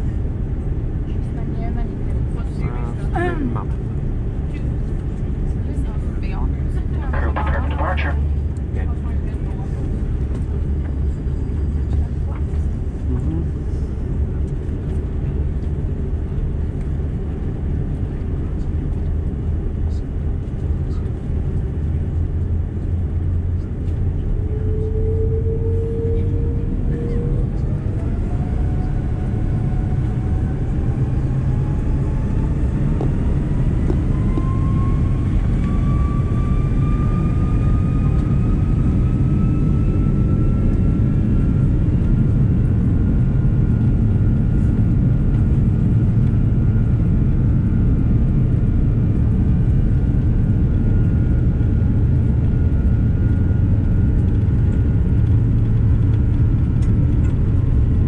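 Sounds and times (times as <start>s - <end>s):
jet engine whine: 0.0s - 58.0s
loud rumble of takeoff roll: 0.0s - 58.0s.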